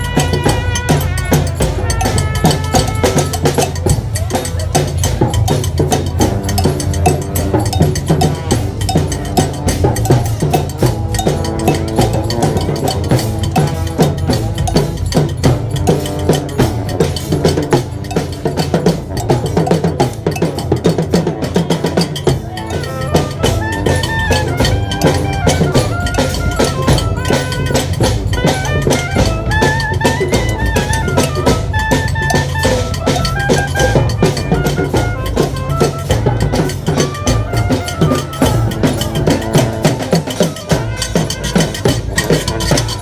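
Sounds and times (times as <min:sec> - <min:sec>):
driving drumming: 0:00.0 - 0:43.0
melody instruments: 0:00.0 - 0:43.0.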